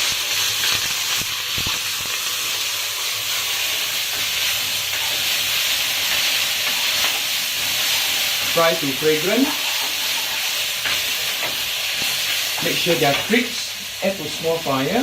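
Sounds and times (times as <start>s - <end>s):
leaves sizzling in hot oil: 0.0s - 15.0s.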